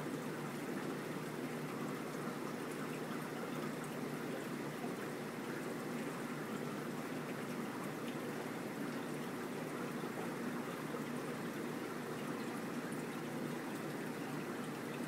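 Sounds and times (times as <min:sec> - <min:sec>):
running water trickling: 0:00.0 - 0:15.0.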